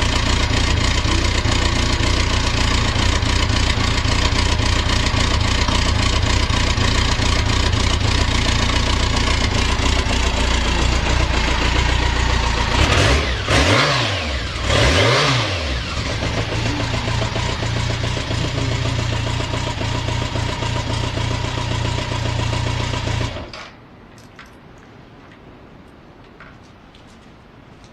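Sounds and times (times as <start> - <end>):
motorcycle engine idling and revving: 0.0 - 23.7.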